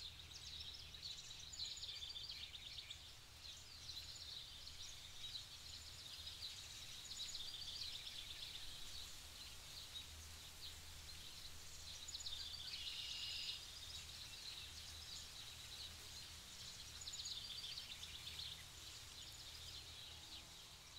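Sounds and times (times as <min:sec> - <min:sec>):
songbirds chirping: 0:00.0 - 0:20.9.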